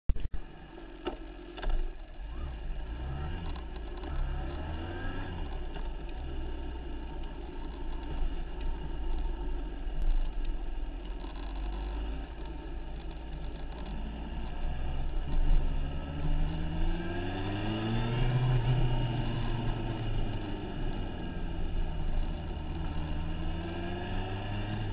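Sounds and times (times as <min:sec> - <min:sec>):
vehicle engine running: 0:00.1 - 0:24.9.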